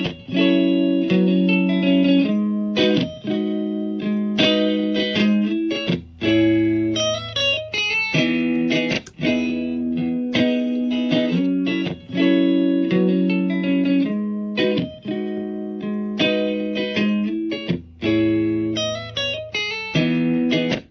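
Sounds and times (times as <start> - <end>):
electric guitar chords and runs: 0.0 - 20.9.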